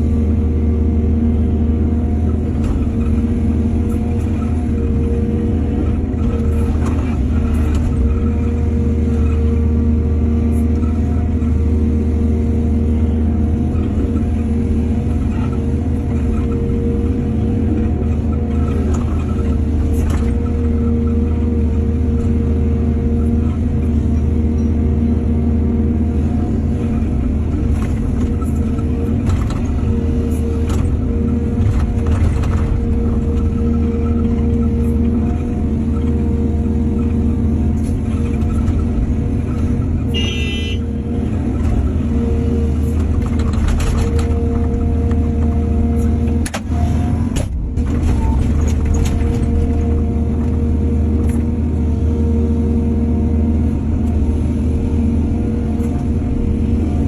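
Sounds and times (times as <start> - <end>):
excavator diesel engine humming: 0.0 - 57.0.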